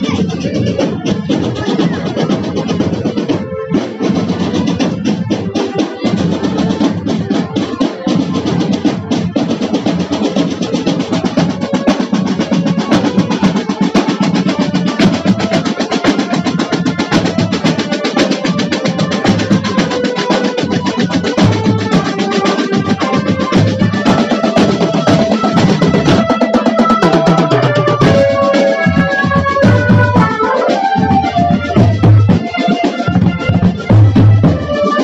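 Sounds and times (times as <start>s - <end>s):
marching snare and bass drums: 0.0s - 35.0s.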